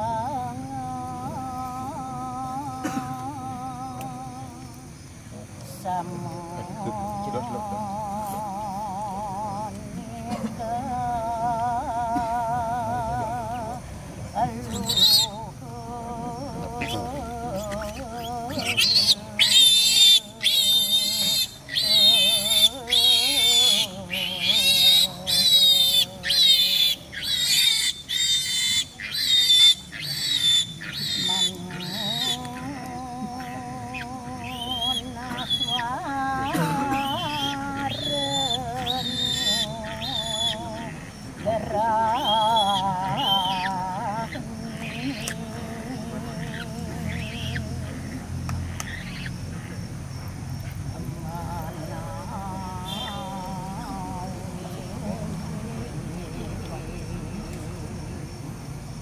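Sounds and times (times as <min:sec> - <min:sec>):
person chanting: 0:00.0 - 0:59.0
steady low hum: 0:00.0 - 0:59.0
high buzzy animal call: 0:06.8 - 0:57.7.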